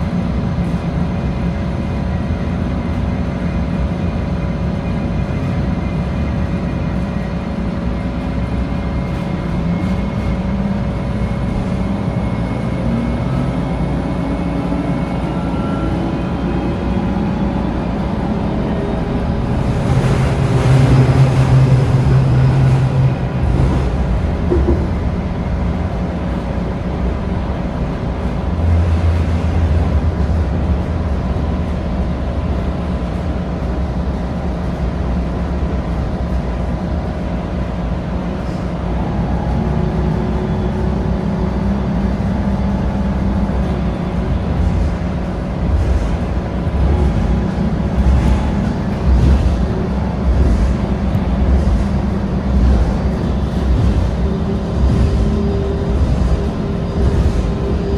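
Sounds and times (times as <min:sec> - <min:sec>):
tram motor whine: 0:00.0 - 0:57.9
wheels rumbling on rails: 0:00.0 - 0:57.9.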